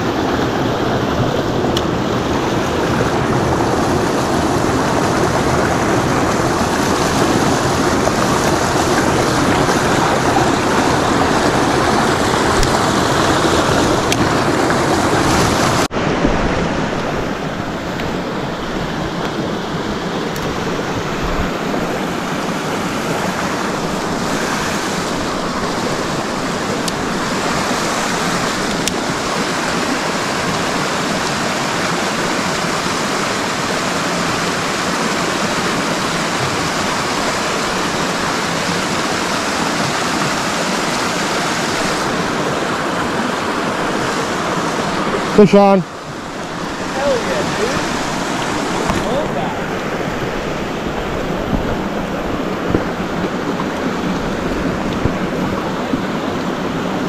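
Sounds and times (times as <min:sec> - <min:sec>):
creek water running: 0:00.0 - 0:57.0.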